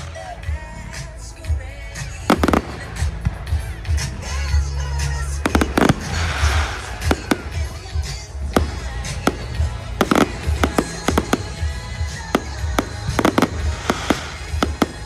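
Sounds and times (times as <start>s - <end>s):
music: 0.0s - 15.0s
fireworks bangs: 2.0s - 15.0s
fireworks crackling fizz: 2.0s - 15.0s.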